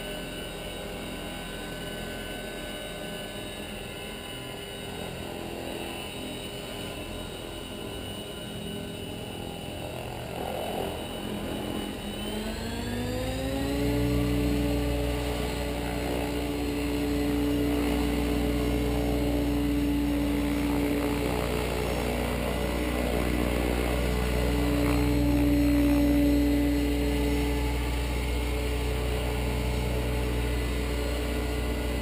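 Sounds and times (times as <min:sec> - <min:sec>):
rc helicopter rotor whine: 0:00.0 - 0:32.0.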